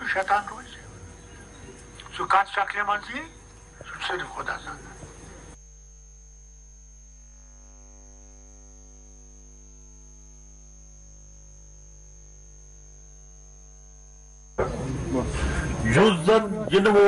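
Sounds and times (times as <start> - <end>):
electrical hum: 0.0 - 17.0
thin high whine: 0.0 - 17.0.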